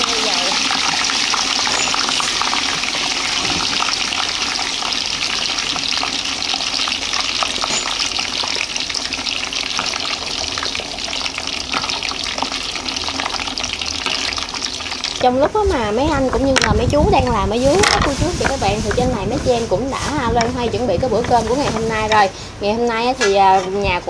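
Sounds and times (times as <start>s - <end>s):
fish frying in oil: 0.0s - 24.0s.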